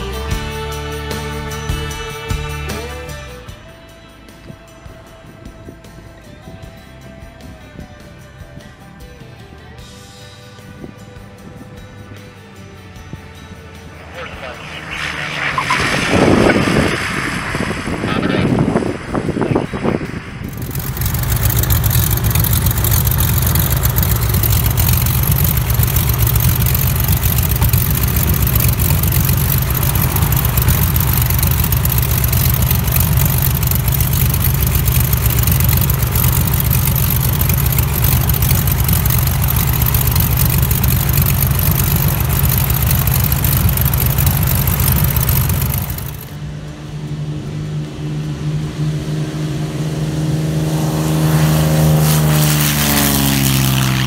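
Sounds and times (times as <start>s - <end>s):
propeller aircraft engine: 0.0s - 54.0s.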